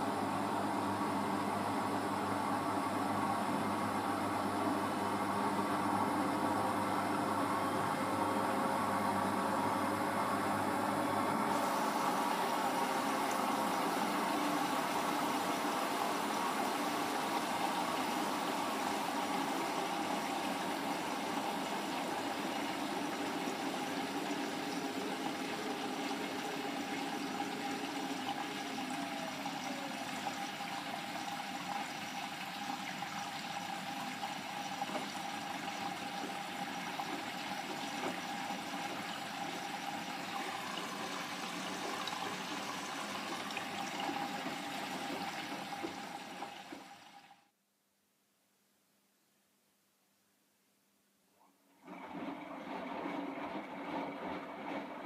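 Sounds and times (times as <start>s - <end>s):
washing machine hum: 0.0s - 47.6s, 51.4s - 55.0s.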